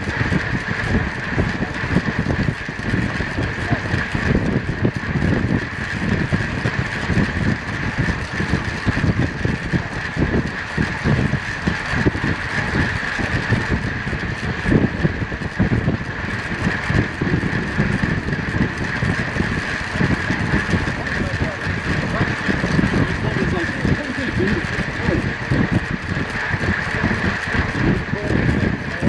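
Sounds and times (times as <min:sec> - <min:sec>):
high-pitched tyre and drivetrain hum: 0:00.0 - 0:29.0
wind buffeting microphone: 0:00.0 - 0:29.0.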